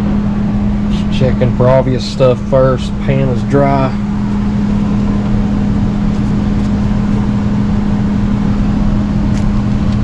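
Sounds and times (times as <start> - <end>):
blower humming: 0.0 - 10.0.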